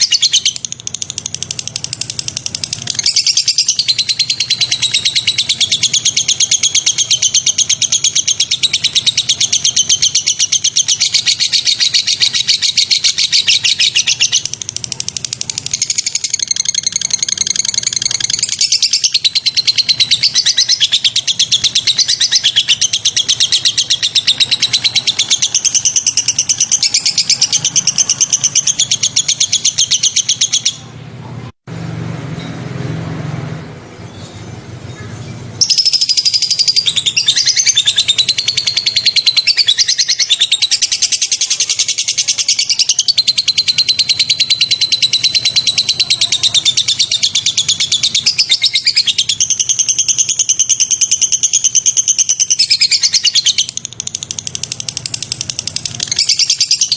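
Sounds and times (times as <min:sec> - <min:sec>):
bird singing trilled notes: 0:00.0 - 0:31.0, 0:34.0 - 0:56.9.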